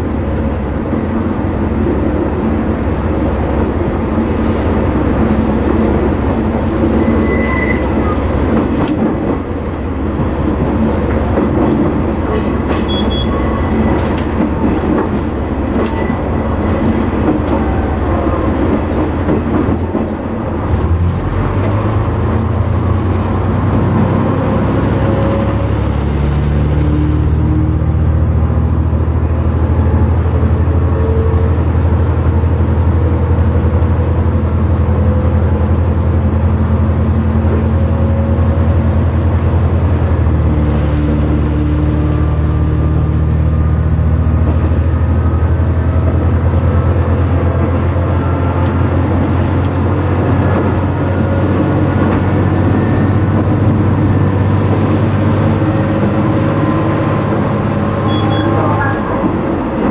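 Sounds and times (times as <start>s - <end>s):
deep engine hum: 0.0s - 59.9s
train running noise: 0.0s - 59.9s.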